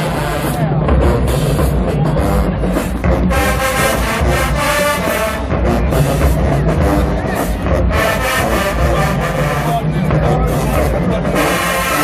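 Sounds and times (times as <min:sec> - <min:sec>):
brass horns: 0:00.0 - 0:12.0
drum line: 0:00.0 - 0:12.0
marching band playing: 0:00.0 - 0:12.0.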